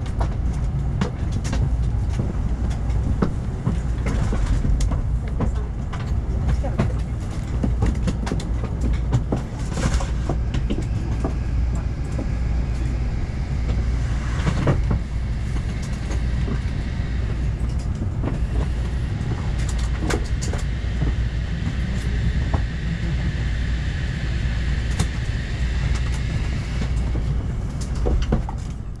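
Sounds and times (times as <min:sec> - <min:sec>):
train interior low rumble: 0:00.0 - 0:29.0
wheels clicking on track: 0:00.0 - 0:29.0.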